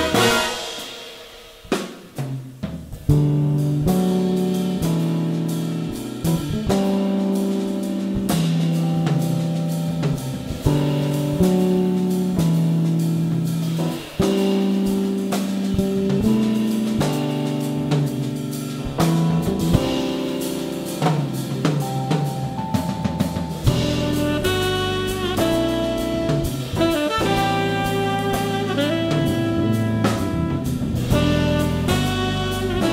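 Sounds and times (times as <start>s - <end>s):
drum and cymbal hits: 0.0s - 32.9s
jazz big band playing: 0.0s - 32.9s.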